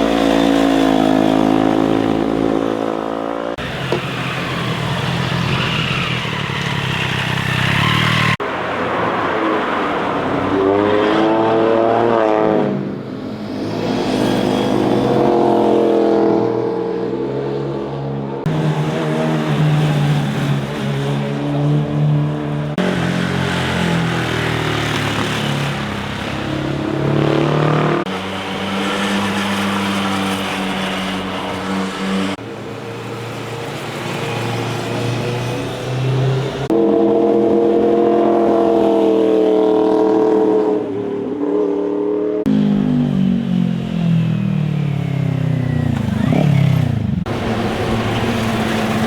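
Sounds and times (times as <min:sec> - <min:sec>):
motorcycles passing and revving: 0:00.0 - 0:49.0.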